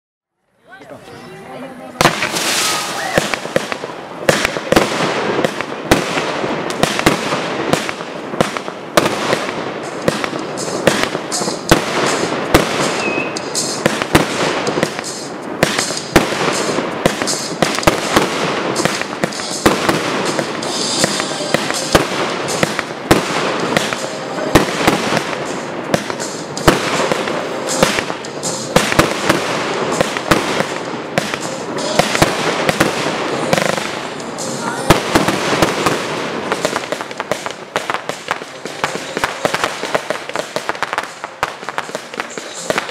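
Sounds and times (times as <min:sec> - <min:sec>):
fireworks bangs and crackling: 0:01.8 - 0:42.9.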